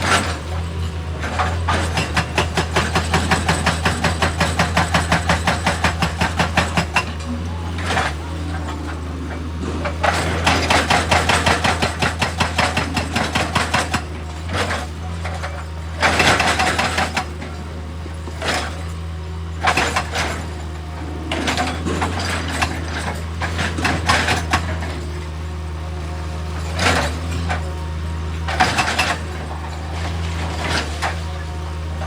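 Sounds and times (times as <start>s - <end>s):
excavator diesel engine running: 0.0s - 32.0s
machine scraping and clanking: 0.0s - 32.0s
rapid engine clatter: 0.0s - 32.0s.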